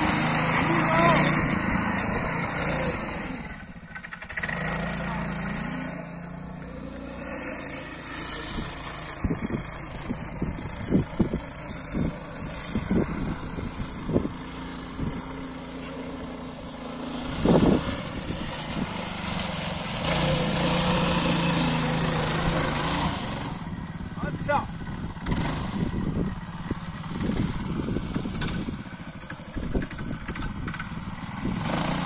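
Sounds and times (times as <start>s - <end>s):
small motorcycle engine running: 0.0s - 32.0s.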